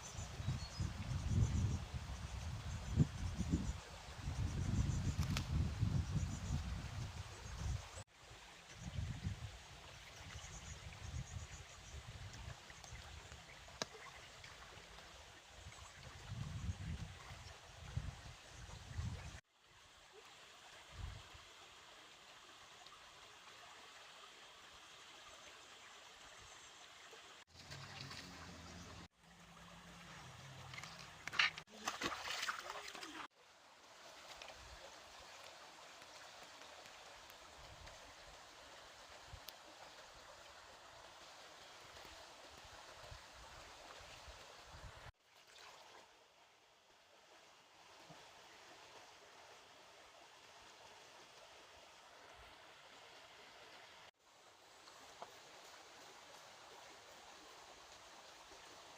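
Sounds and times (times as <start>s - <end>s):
stream water flowing: 0.0s - 58.9s.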